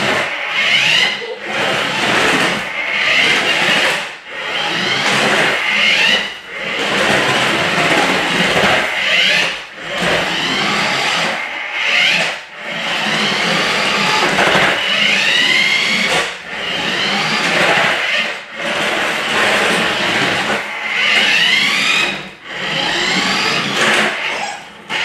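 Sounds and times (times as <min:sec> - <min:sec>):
toy car motor whirring: 0:00.0 - 0:25.0.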